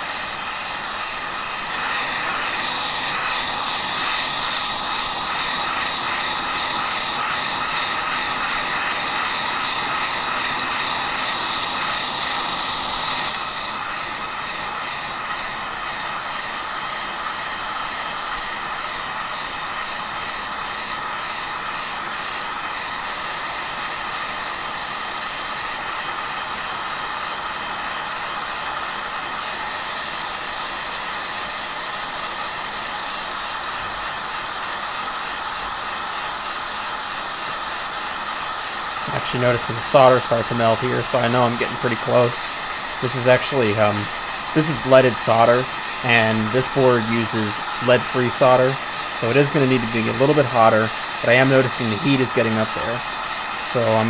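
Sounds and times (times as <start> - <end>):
heat gun blowing with motor whine: 0.0 - 54.0.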